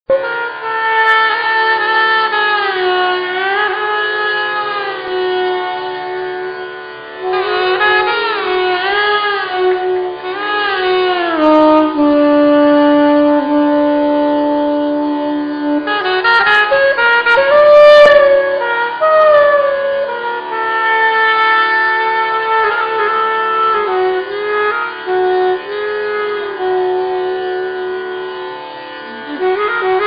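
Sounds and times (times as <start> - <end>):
saxophone melody: 0.1 - 30.0.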